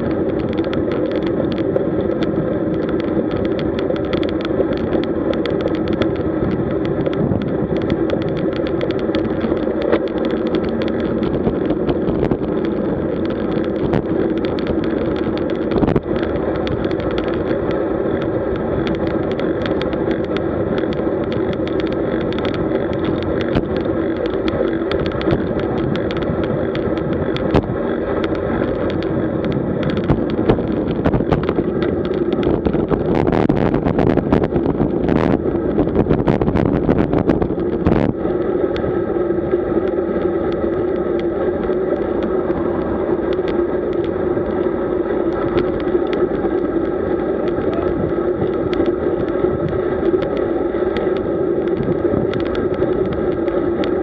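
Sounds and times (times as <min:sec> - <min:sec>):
bike tyres humming on asphalt: 0:00.0 - 0:54.0
rushing wind: 0:00.0 - 0:54.0.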